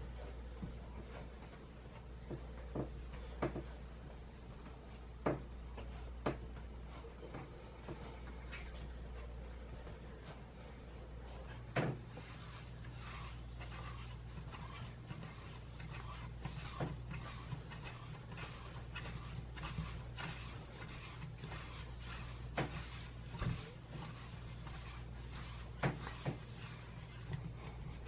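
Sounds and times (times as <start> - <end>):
dough rubbing and patting on wood: 0.0 - 28.0
steady low hum: 0.0 - 28.0.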